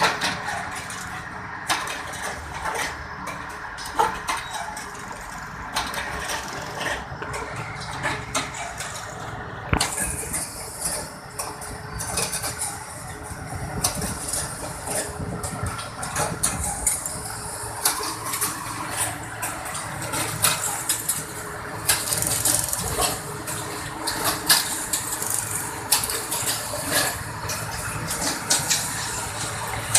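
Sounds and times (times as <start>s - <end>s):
heavy diesel engine running: 0.0s - 29.9s.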